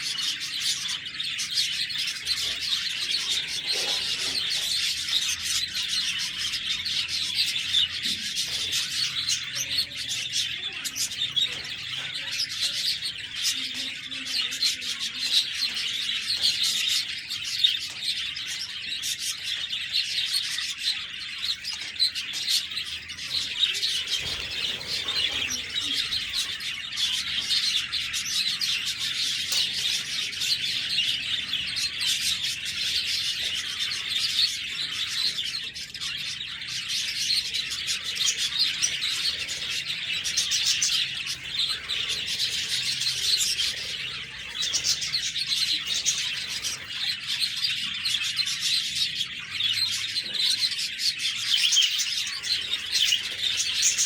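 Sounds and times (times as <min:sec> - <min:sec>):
budgerigars chirping: 0:00.0 - 0:54.0.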